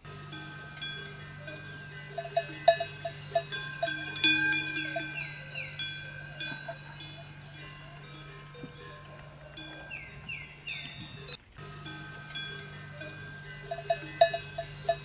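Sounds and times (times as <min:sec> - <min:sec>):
livestock bells clanking: 0:00.0 - 0:15.0.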